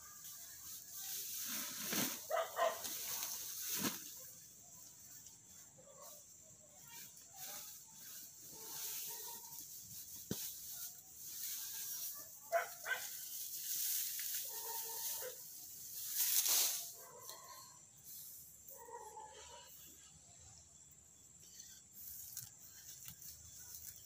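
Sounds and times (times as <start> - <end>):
leafy plants rustling: 0.0 - 18.8, 22.0 - 24.0.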